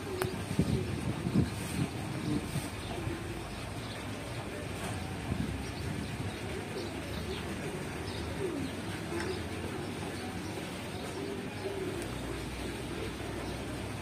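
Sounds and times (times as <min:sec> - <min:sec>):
birds chirping and calling: 0:00.0 - 0:14.0.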